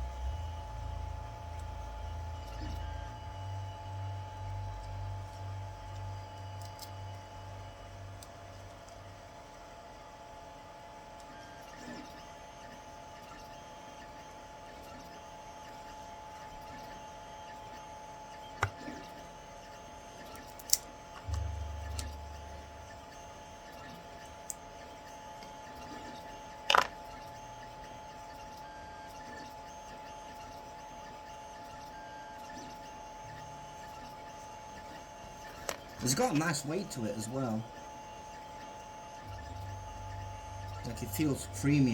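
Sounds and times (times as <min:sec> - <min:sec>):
steady two-tone hum: 0:00.0 - 0:10.4, 0:11.0 - 0:41.9.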